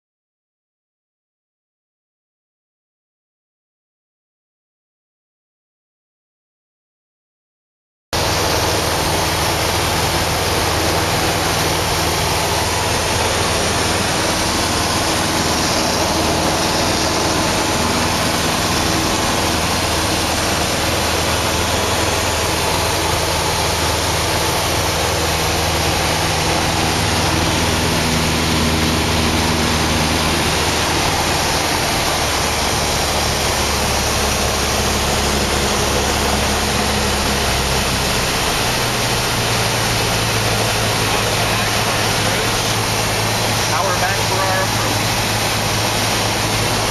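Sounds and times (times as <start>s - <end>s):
aircraft engine and propeller: 8.2s - 46.9s
rush of air noise: 8.2s - 46.9s.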